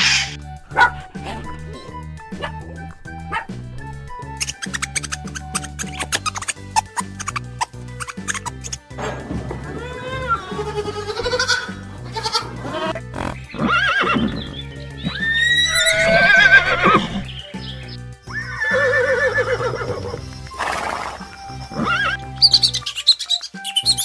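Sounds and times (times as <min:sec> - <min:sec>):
animal wavering cries: 0:00.0 - 0:07.3, 0:09.5 - 0:17.3, 0:18.3 - 0:24.0
background music: 0:00.0 - 0:24.0.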